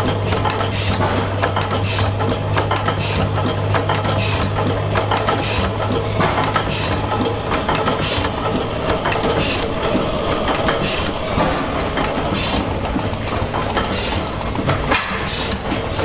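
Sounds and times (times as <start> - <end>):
engine clicks and thumps: 0.0 - 16.0.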